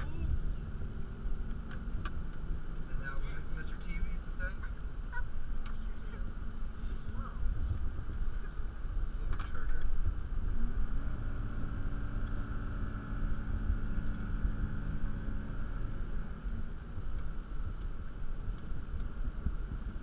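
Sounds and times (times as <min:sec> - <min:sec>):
car engine and road rumble: 0:00.0 - 0:20.0
engine hum: 0:00.0 - 0:20.0.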